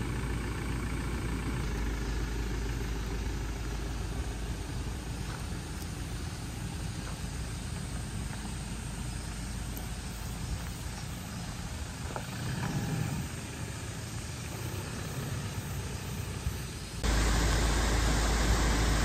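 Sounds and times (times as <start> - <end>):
vehicle driving over gravel: 0.0 - 18.4.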